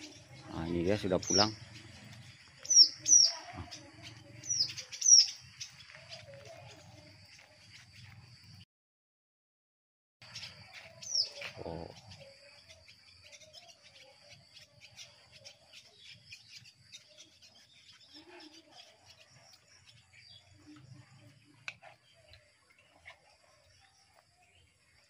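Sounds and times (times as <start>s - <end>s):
swallows twittering: 0.0s - 8.6s, 10.2s - 25.0s.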